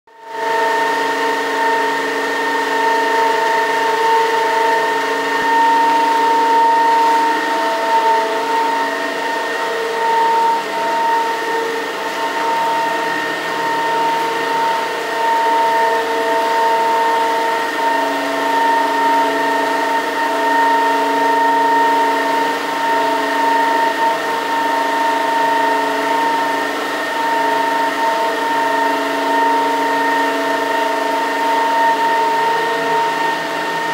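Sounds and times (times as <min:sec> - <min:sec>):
turbine generator whine: 0:00.1 - 0:33.9.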